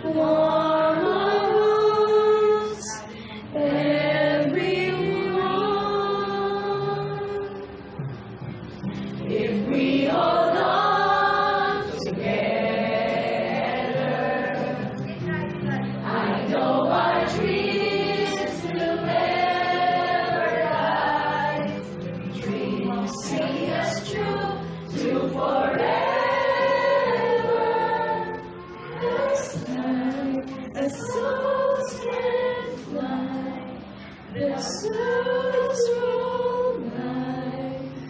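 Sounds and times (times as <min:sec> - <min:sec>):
choir singing: 0:00.0 - 0:07.5, 0:09.2 - 0:15.2, 0:16.0 - 0:38.0.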